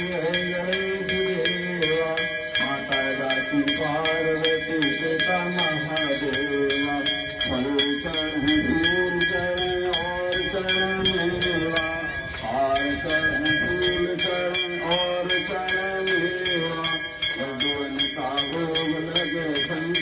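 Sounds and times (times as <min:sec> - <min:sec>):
fast jingling beat: 0:00.0 - 0:20.0
person singing devotional song: 0:00.0 - 0:20.0.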